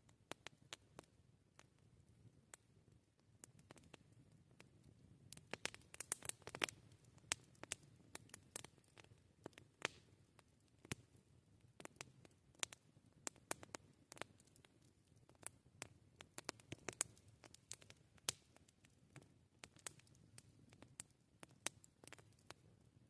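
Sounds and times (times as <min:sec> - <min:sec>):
low rumble of burning fire: 0:00.0 - 0:23.0
campfire crackling: 0:00.2 - 0:22.9.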